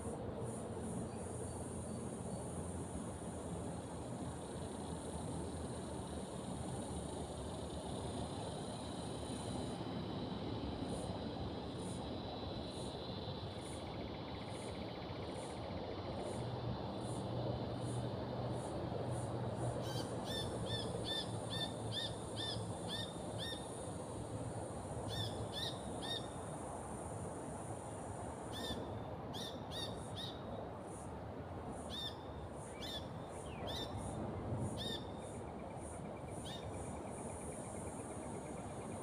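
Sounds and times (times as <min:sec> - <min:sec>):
background hiss: 0:00.0 - 0:39.0.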